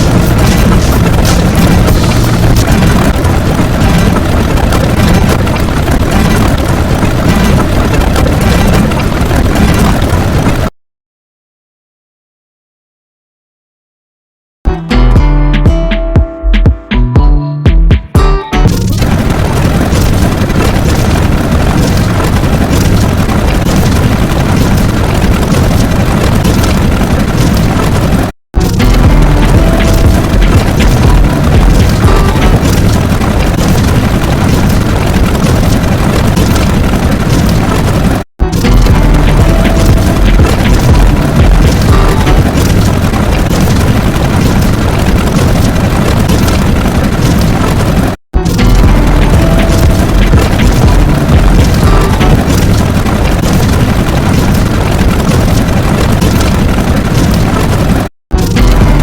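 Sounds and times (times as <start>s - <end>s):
dense rumbling noise: 0.0s - 10.7s, 18.7s - 59.0s.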